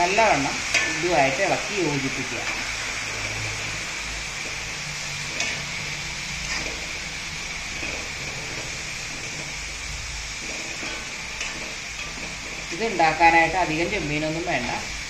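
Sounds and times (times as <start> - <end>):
food sizzling in a metal pan: 0.0 - 15.0
steel spoon scraping a pan: 0.2 - 14.9.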